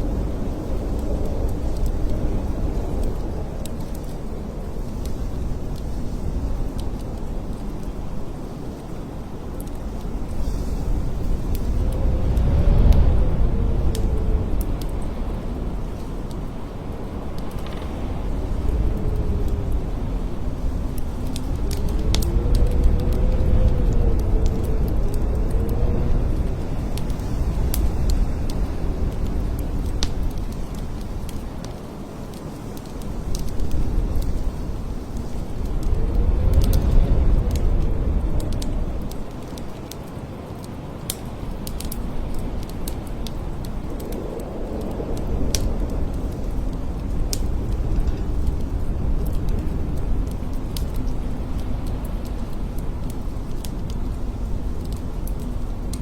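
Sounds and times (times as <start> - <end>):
wind howling: 0.0 - 56.0
light ticks: 0.7 - 13.2, 13.8 - 19.9, 20.6 - 56.0.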